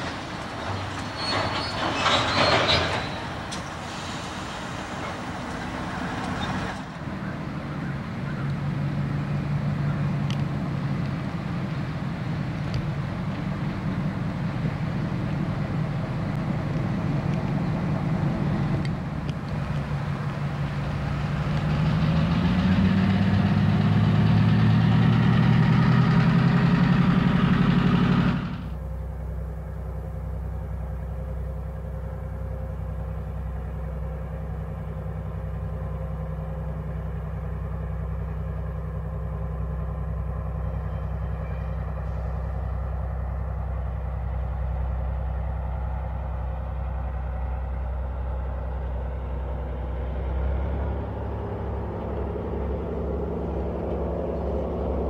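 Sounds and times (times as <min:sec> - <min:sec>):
diesel locomotive engine revving: 0:00.0 - 0:55.0
low engine drone: 0:01.6 - 0:55.0.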